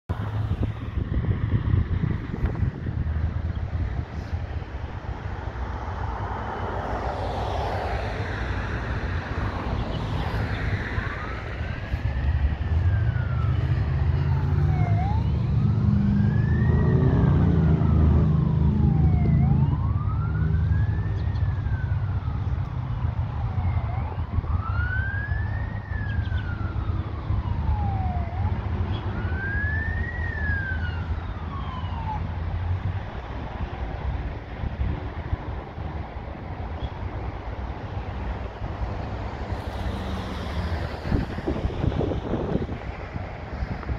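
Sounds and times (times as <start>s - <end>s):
emergency siren wailing: 0.1s - 43.9s
vehicle rumble: 0.1s - 43.9s.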